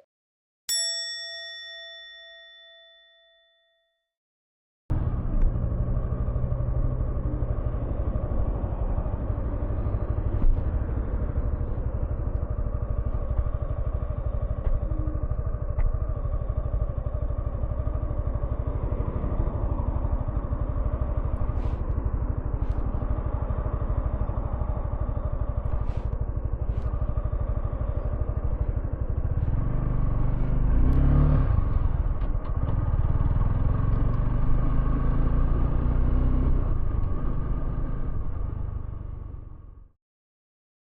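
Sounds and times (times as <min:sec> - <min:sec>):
motorcycle engine running: 0:04.9 - 0:39.9.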